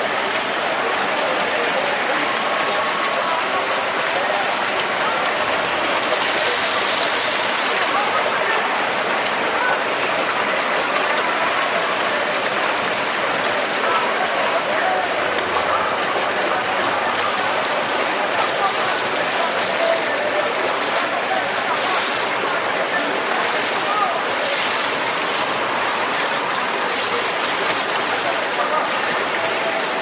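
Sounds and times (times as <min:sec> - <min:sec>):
faint murmur of voices: 0:00.0 - 0:30.0
swimmers splashing: 0:00.0 - 0:30.0.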